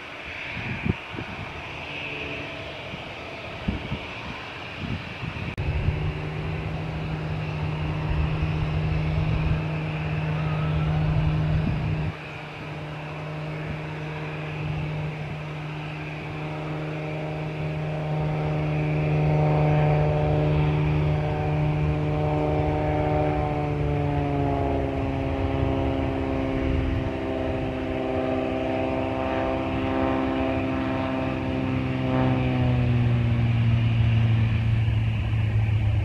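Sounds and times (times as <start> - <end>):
propeller aircraft engine humming: 0.0 - 36.0.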